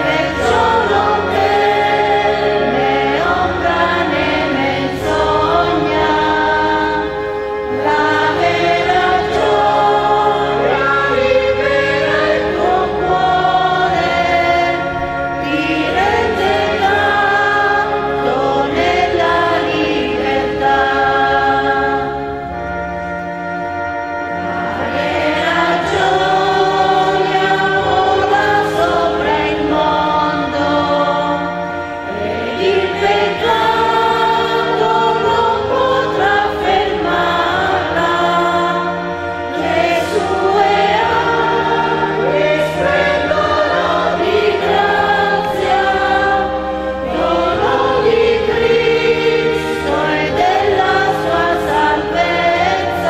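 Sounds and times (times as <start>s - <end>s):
women's choir singing a hymn: 0.0s - 53.0s.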